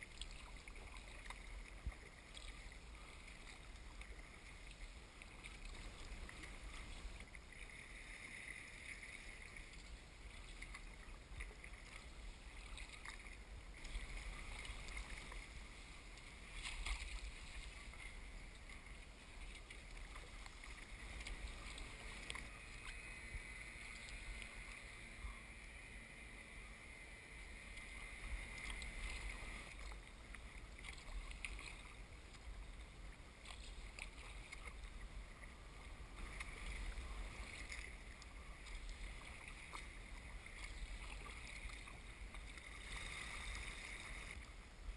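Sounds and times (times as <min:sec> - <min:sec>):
paddle splashing water: 0:00.0 - 0:26.0, 0:27.4 - 0:44.9
low steady rumble: 0:00.0 - 0:44.9
water washing along hull: 0:00.0 - 0:44.9.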